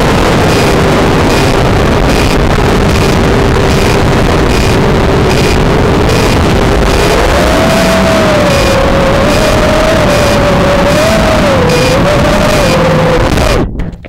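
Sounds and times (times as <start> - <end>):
drone motors whining: 0.0 - 13.9.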